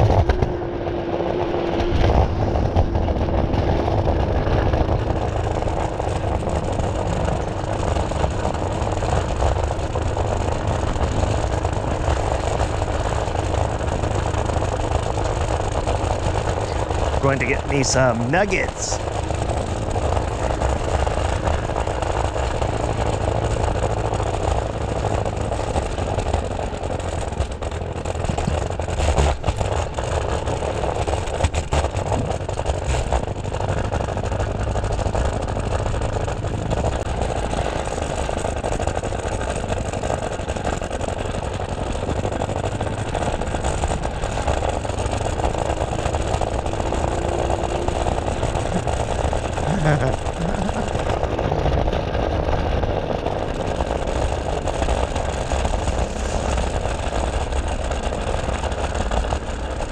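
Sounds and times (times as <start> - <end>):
wind rushing over microphone: 0.0 - 59.9
small wheels rolling on pavement: 1.6 - 17.2, 19.0 - 59.9.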